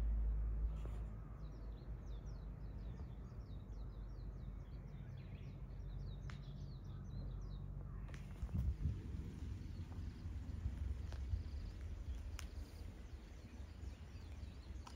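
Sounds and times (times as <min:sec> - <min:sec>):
low outdoor rumble: 0:00.0 - 0:14.9
small bird chirping: 0:00.8 - 0:14.9.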